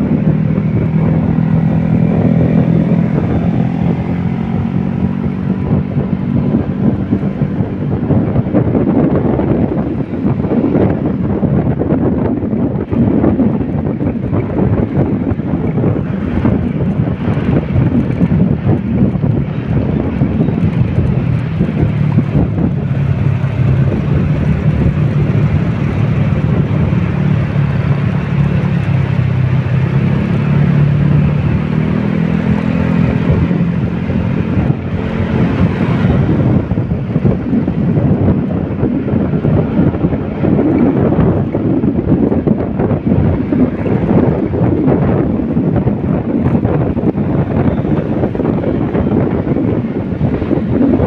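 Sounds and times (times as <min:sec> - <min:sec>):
vehicle engine running: 0:00.0 - 0:51.0
wind noise on microphone: 0:00.0 - 0:51.0.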